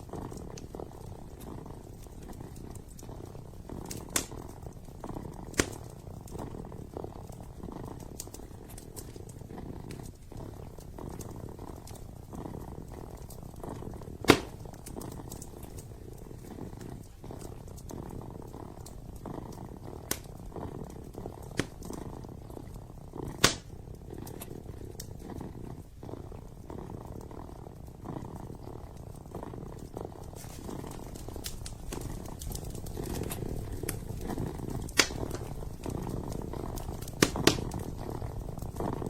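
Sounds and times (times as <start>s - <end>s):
kitten purring: 0.0s - 39.0s
wood fire crackling and popping: 0.0s - 39.0s.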